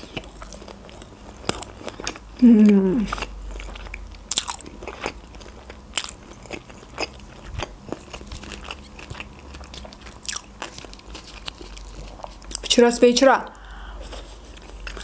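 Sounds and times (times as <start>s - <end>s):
person chewing: 0.0s - 12.7s, 13.5s - 15.0s.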